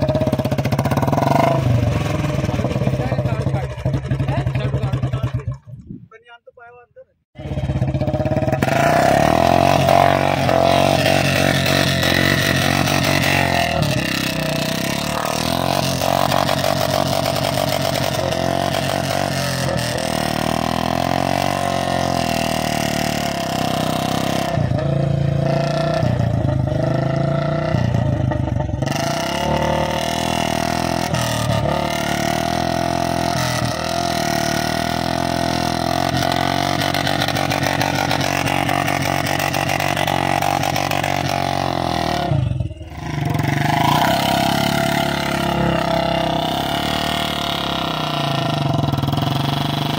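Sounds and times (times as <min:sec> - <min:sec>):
motorcycle engine revving: 0:00.0 - 0:05.8, 0:07.4 - 0:49.9.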